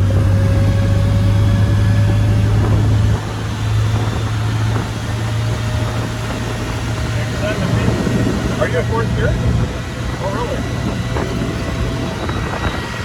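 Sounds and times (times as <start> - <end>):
car engine and exhaust droning: 0.0 - 13.0.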